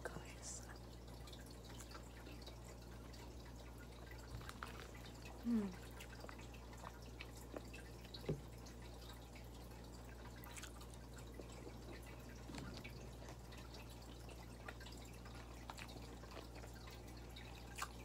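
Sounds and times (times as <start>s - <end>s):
chewing and lip smacks: 1.3s - 18.0s.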